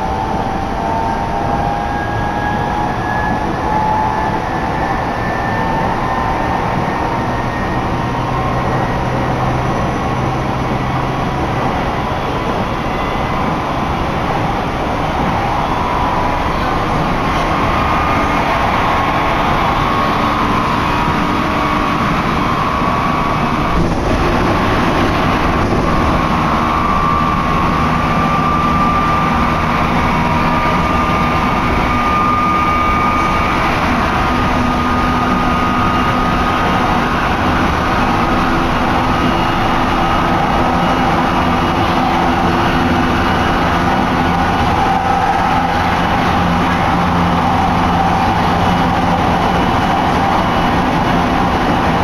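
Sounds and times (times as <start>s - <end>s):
train whine rising: 0.0s - 52.0s
wheels rumbling on rail: 0.0s - 52.0s.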